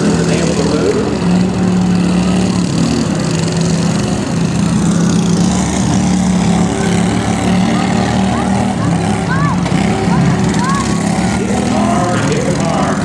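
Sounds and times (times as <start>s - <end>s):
riding lawn mower engines droning: 0.0s - 13.0s.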